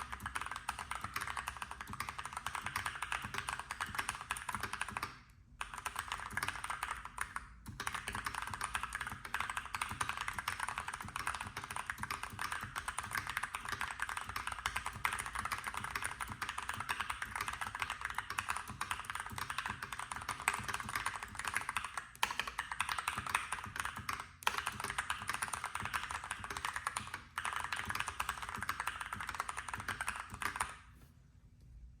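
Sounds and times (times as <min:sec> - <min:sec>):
mechanical keyboard typing: 0:00.0 - 0:30.9.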